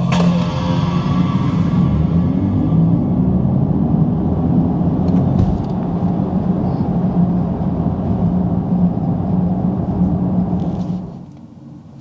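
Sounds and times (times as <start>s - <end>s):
electric car hum: 0.0s - 12.0s
road and tyre rumble: 0.0s - 12.0s.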